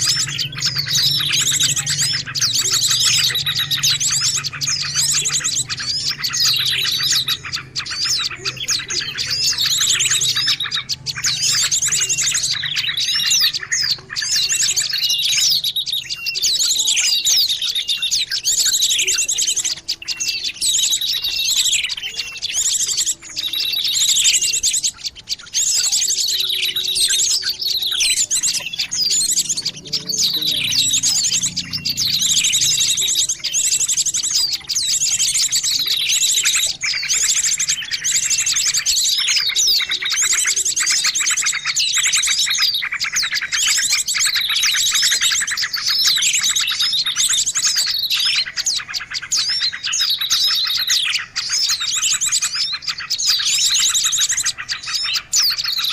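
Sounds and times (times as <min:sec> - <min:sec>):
rapid rattling bird trill: 0:00.0 - 0:55.9
small birds chirping and trilling: 0:00.0 - 0:55.9.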